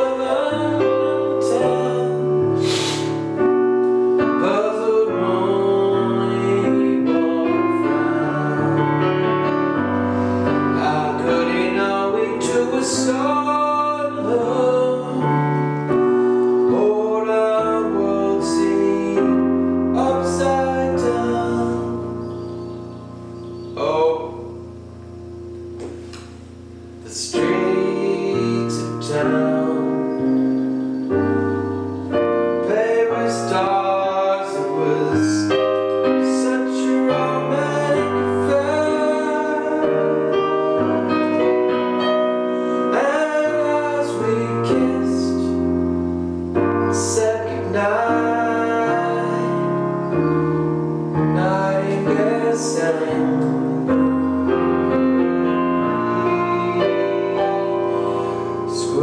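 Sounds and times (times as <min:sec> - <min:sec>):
person singing a slow ballad: 0:00.0 - 0:59.0
piano: 0:00.0 - 0:59.0.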